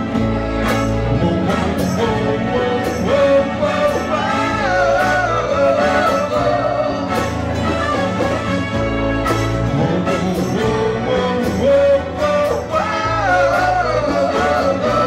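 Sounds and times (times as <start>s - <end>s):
live band playing: 0.0s - 15.0s
wavering lead melody: 0.0s - 15.0s.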